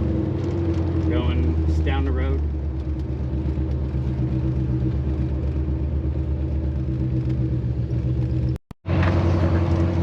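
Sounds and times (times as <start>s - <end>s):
car engine cruising: 0.0s - 10.0s.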